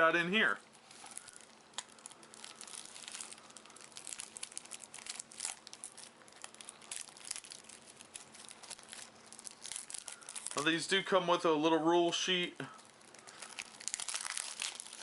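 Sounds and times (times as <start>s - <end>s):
packaging crinkling and rustling: 0.4s - 11.0s, 12.7s - 15.0s.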